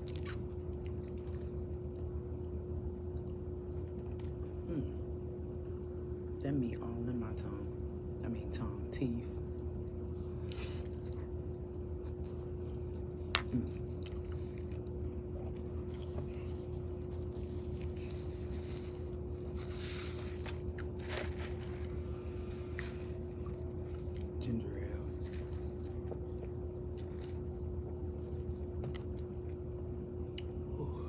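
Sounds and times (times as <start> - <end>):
chewing and wet mouth sounds: 0.0 - 4.6, 5.6 - 6.4, 9.4 - 31.0
low electrical hum: 0.0 - 31.0.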